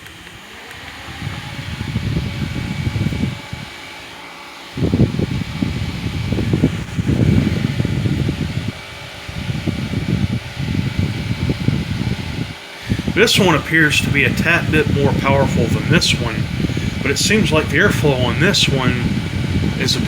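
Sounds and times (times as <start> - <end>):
small fans whirring: 0.0 - 20.0
wind rumble on microphone: 0.7 - 4.1, 4.7 - 20.0.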